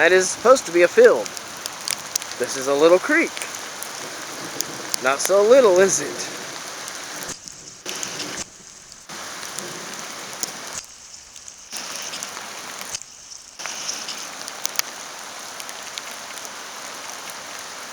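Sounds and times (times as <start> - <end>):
rain pattering on a surface: 0.0 - 17.9.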